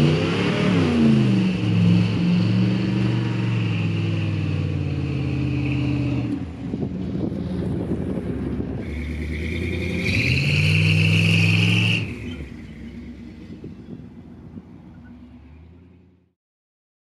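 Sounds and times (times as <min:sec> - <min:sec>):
car engine revving: 0:00.0 - 0:16.3.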